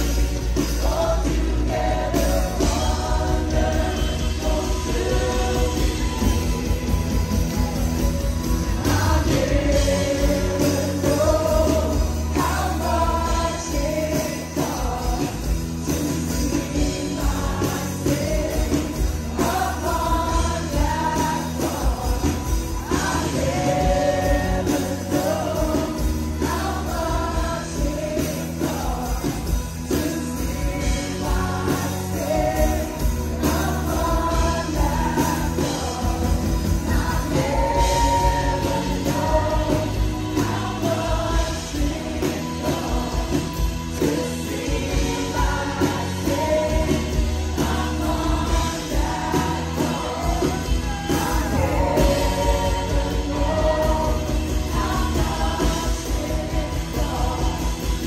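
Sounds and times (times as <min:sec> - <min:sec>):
worship band playing and singing: 0:00.0 - 0:58.0.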